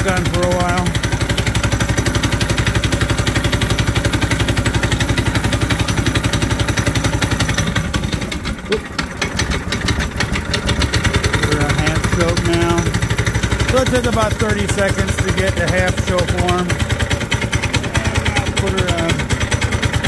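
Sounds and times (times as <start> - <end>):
small engine running unevenly: 0.0 - 20.0.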